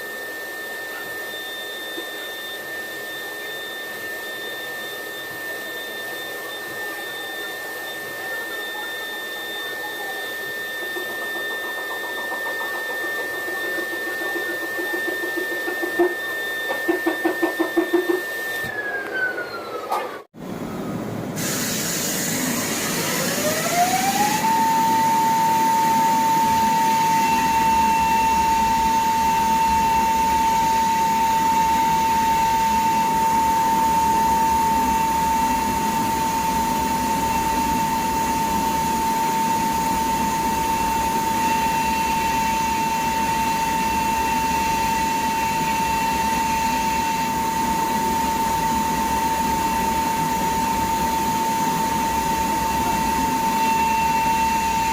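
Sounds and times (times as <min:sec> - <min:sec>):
spindle motor whine: 0:00.0 - 0:21.4, 0:22.2 - 0:54.9.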